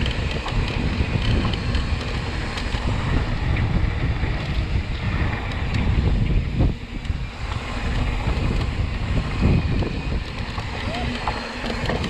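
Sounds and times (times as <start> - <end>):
faint clicks and rattles: 0.0 - 6.1, 6.9 - 12.0
wind buffeting microphone: 0.0 - 12.0.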